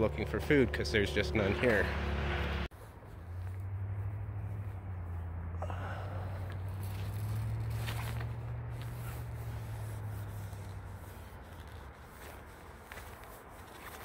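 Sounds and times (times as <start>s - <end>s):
leaves and twigs rustling: 2.8s - 14.0s.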